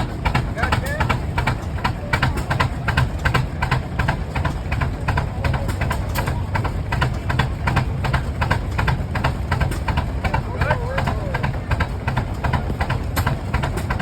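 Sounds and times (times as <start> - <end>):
tractor engines running: 0.0 - 14.0.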